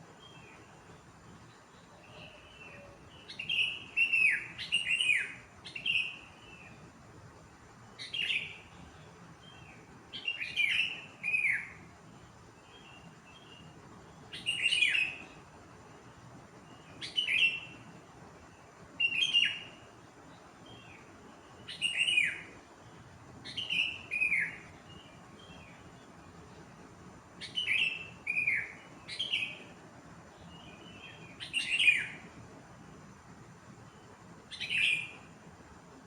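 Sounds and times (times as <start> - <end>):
faint bird chirps: 0.0 - 36.0.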